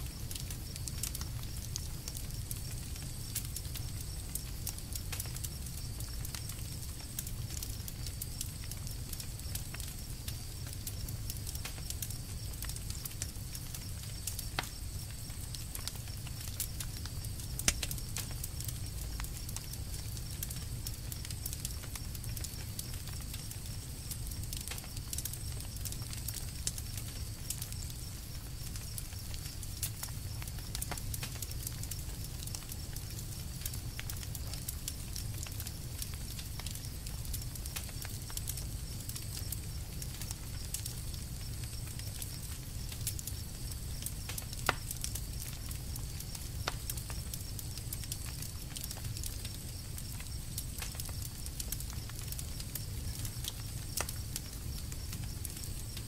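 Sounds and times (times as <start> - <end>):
campfire crackling: 0.0 - 56.0
sharp fire pops: 0.0 - 56.0.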